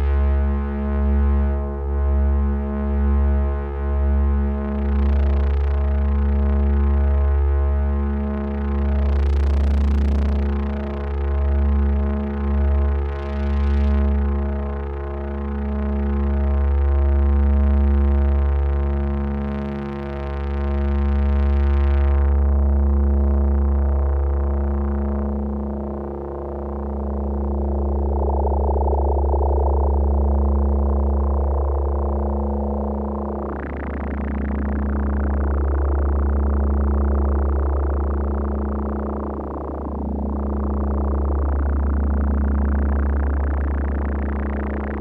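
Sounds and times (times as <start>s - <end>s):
synthesizer droning bass tone: 0.0s - 45.0s.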